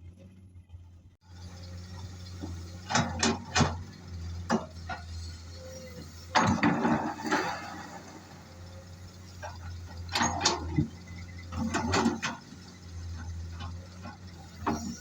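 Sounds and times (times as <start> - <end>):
excavator engine running: 0.0 - 15.0
rattling clatter: 1.4 - 15.0.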